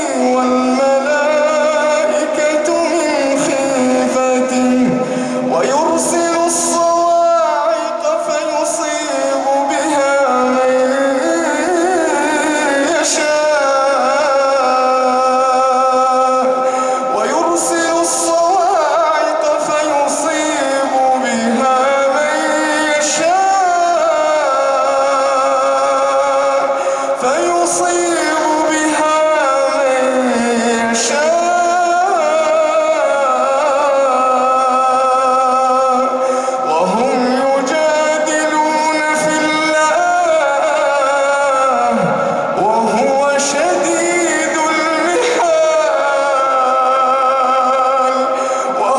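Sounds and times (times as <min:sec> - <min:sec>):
man chanting melodic recitation: 0:00.0 - 0:48.9.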